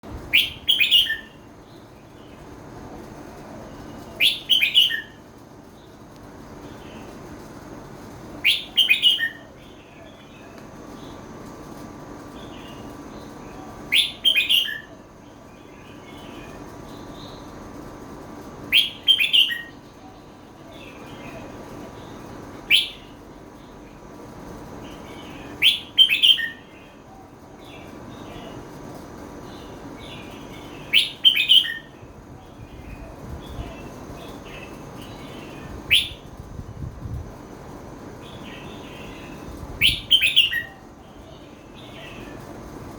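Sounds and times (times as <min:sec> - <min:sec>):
bulbul singing: 0:00.1 - 0:07.3, 0:08.4 - 0:11.3, 0:12.3 - 0:17.6, 0:18.6 - 0:24.1, 0:24.8 - 0:36.6, 0:37.4 - 0:42.6
faint bird chirping: 0:08.4 - 0:42.8.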